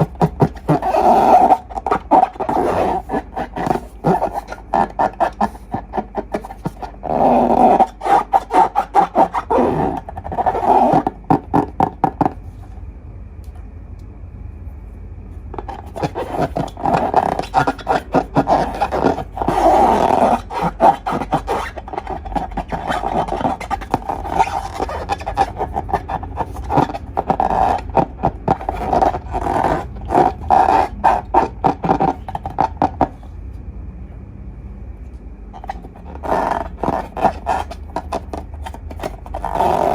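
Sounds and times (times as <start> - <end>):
balloons rubbing and squeaking: 0.0 - 12.7, 15.5 - 33.3, 35.5 - 39.9.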